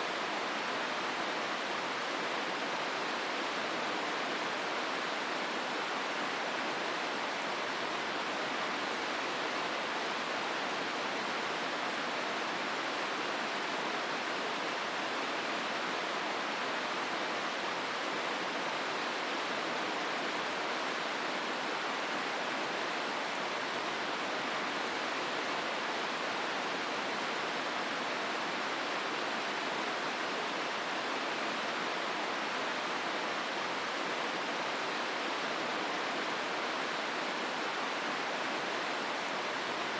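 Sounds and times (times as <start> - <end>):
river rushing through rocky gorge: 0.0 - 39.9.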